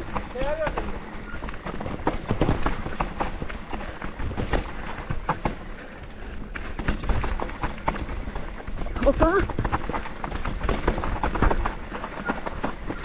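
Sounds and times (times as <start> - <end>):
bike knocking and rattling: 0.0 - 13.0
bike tyres rumbling on dirt: 0.0 - 13.0.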